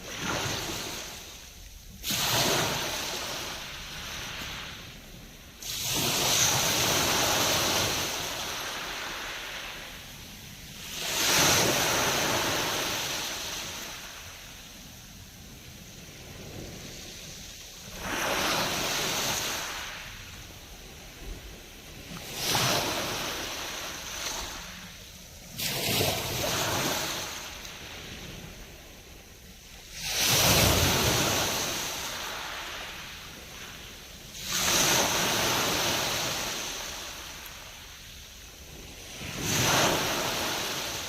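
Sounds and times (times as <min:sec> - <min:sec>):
waves breaking on shore: 0:00.0 - 0:41.0.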